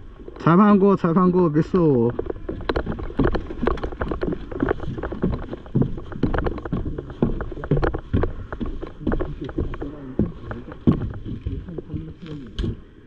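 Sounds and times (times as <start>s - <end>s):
footsteps on wooden boards: 0.2s - 13.0s
gear rattling: 1.7s - 12.9s.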